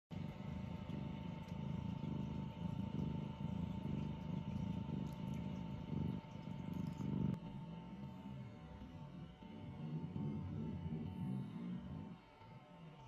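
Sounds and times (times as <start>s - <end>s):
cat purring: 0.1s - 12.2s.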